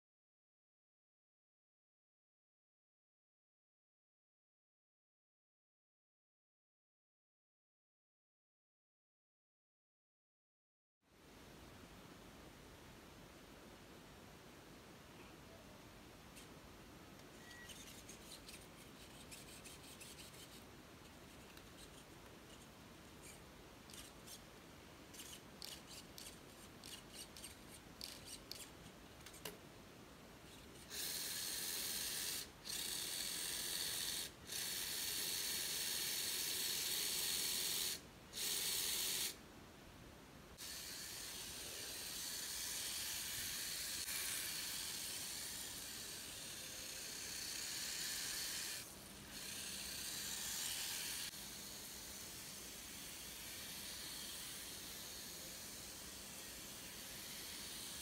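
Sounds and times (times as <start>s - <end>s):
steady hiss: 11.1s - 58.0s.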